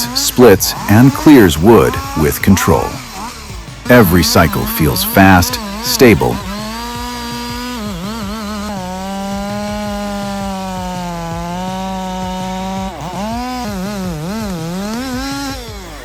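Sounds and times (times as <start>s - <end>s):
chainsaw engine at high revs: 0.0s - 16.0s.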